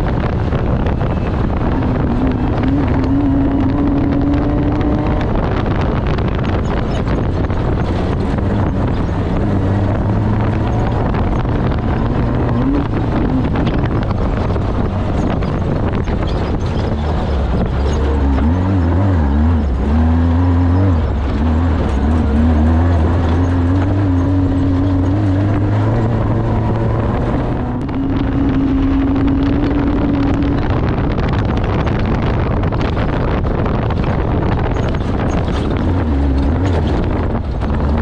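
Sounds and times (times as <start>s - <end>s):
loud wind: 0.0s - 38.0s
rattling: 0.0s - 38.0s
vehicle engine running hard: 0.0s - 38.0s.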